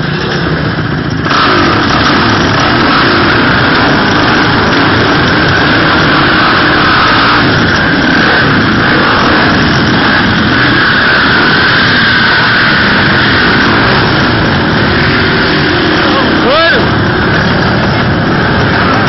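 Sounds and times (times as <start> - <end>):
dirt bike and quad engines droning: 0.0 - 19.0.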